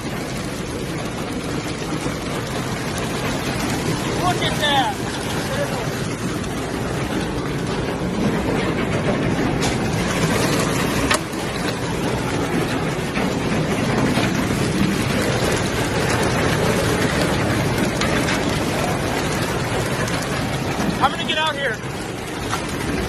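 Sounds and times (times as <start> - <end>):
rain: 0.0 - 23.0
wind: 0.0 - 23.0.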